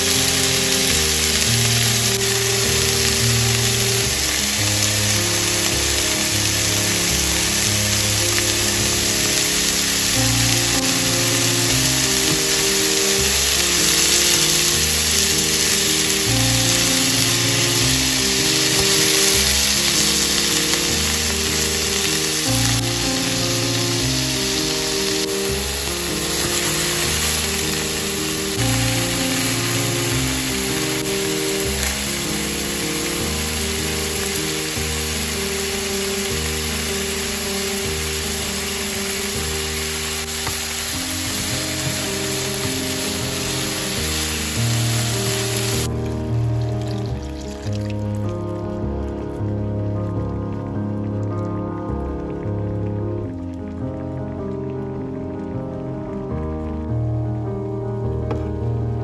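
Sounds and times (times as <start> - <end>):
chicken sizzling in a frying pan: 0.0 - 49.0
background music of sustained notes: 0.0 - 59.0.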